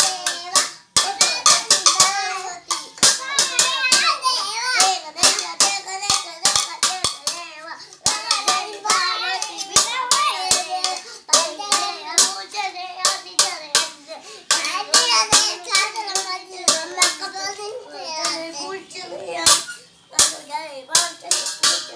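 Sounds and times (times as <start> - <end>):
steel plates clashed together: 0.0 - 17.2, 21.0 - 21.9
children singing: 0.0 - 19.5.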